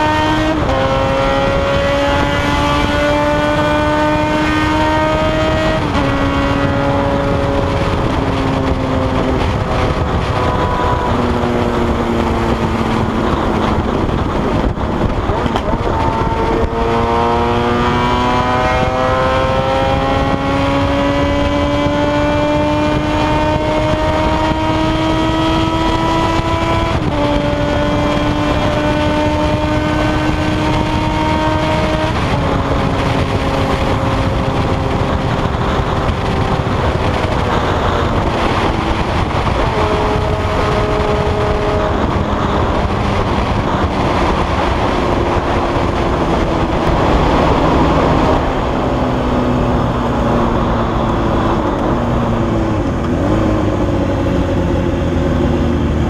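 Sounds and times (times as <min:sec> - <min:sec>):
motorcycle engine running hard: 0:00.0 - 0:56.0
wind roar on microphone: 0:00.0 - 0:56.0.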